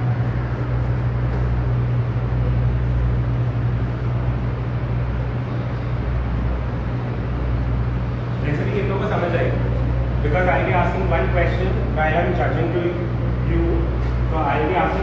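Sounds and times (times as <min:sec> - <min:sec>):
ventilation machinery hum and hiss: 0:00.0 - 0:15.0.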